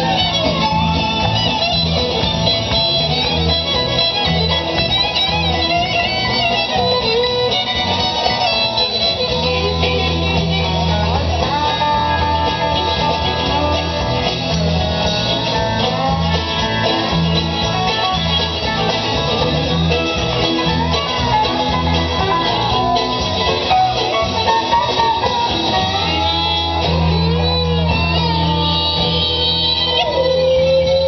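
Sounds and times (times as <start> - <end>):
country music with guitar: 0.0 - 31.0.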